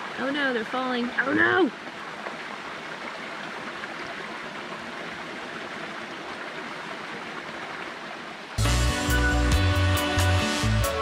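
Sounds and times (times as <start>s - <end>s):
creek water flowing over rocks: 0.0s - 9.1s.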